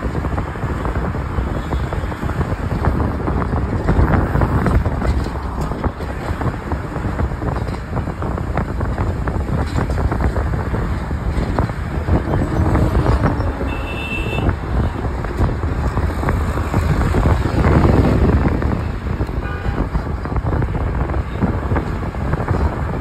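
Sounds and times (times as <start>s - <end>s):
vehicle road and engine rumble: 0.0s - 23.0s
wind through open window: 0.0s - 23.0s.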